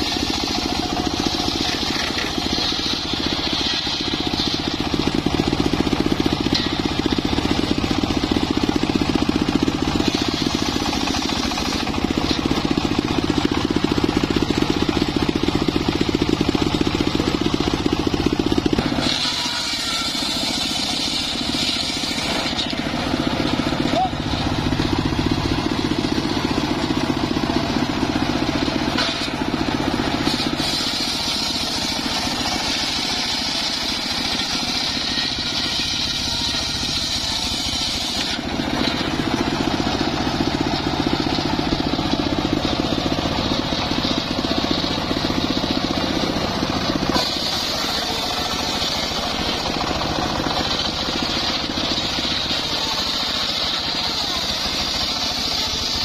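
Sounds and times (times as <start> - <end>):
circular saw whine: 0.0 - 56.0
sawmill engine running: 0.0 - 56.0.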